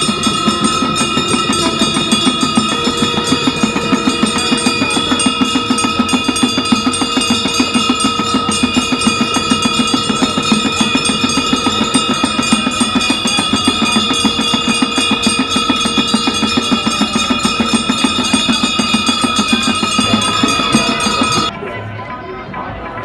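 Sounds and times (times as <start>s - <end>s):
ringing bells and percussion: 0.0s - 23.0s.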